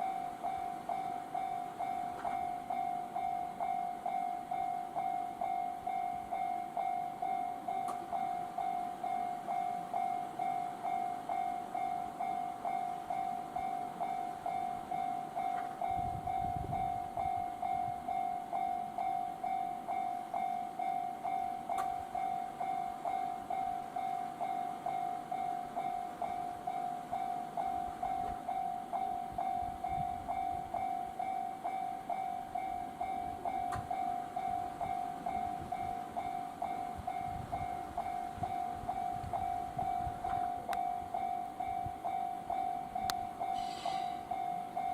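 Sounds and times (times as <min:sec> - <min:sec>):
level-crossing alarm ringing: 0:00.0 - 0:44.9.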